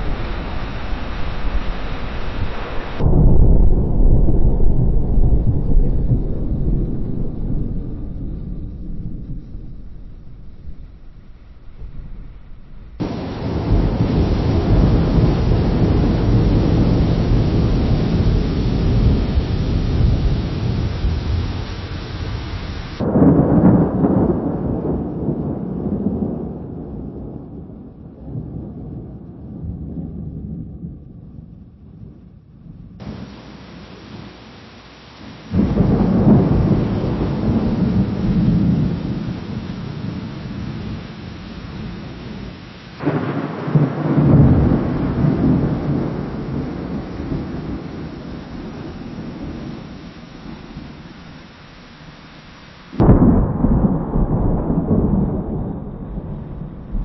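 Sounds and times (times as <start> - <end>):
distant thunder rumble: 0.0 - 57.0.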